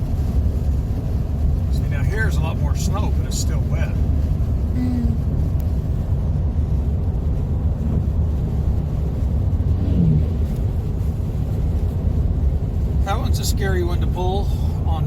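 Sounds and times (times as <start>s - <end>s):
car driving on slushy road: 0.0s - 15.0s.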